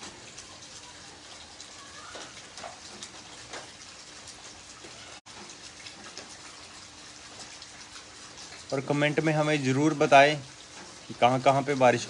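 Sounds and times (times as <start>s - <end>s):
heavy rain on concrete: 0.0s - 12.0s.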